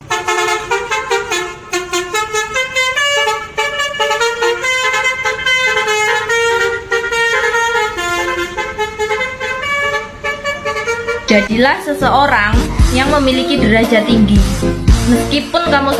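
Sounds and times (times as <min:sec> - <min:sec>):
musical bus horn tune: 0:00.0 - 0:15.9.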